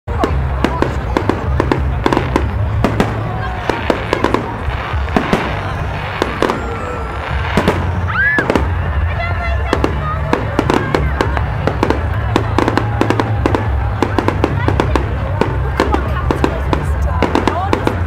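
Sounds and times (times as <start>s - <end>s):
fireworks bangs: 0.1s - 18.0s
fireworks crackling: 0.1s - 18.0s.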